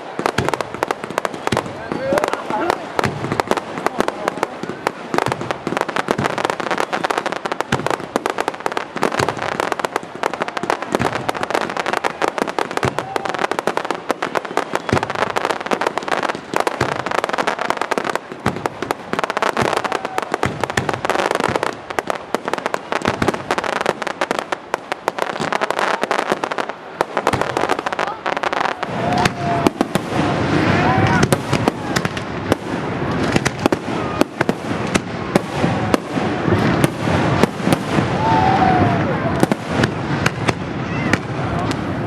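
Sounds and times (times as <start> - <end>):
fireworks crackling and banging: 0.0 - 42.0.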